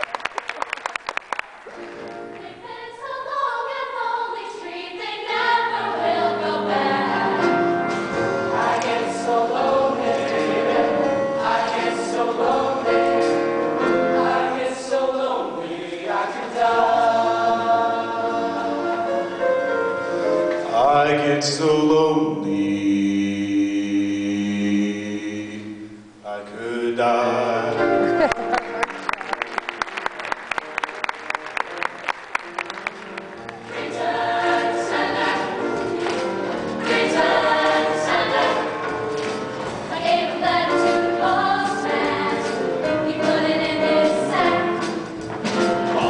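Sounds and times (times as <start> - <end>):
musical accompaniment: 0.0 - 46.0
choir singing in harmony: 2.0 - 28.2, 33.5 - 46.0.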